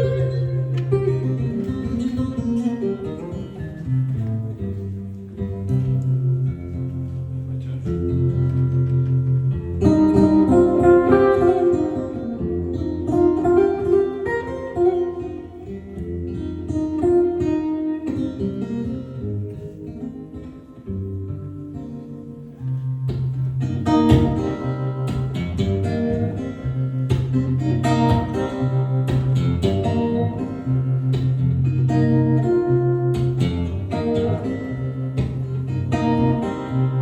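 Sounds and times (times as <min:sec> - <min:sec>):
picked guitar playing: 0:00.0 - 0:37.0.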